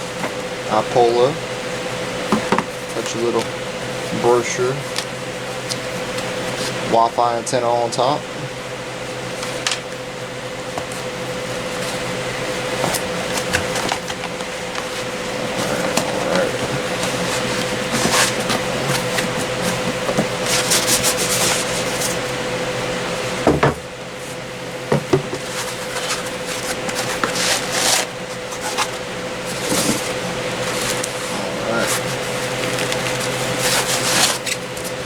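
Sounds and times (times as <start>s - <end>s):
steady mechanical hum: 0.0s - 35.0s
cardboard rustling and scraping: 2.2s - 7.0s, 10.6s - 22.5s, 23.2s - 35.0s.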